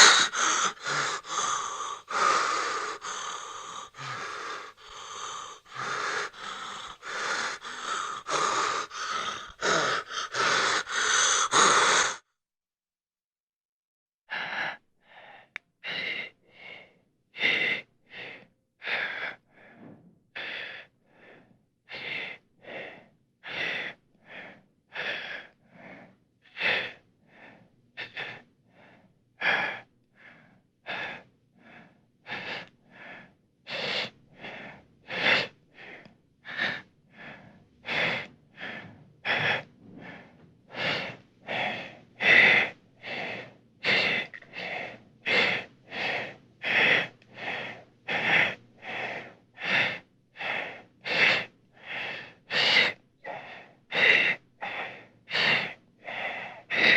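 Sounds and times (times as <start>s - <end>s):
heavy panting breathing: 0.0s - 12.2s, 14.3s - 56.9s.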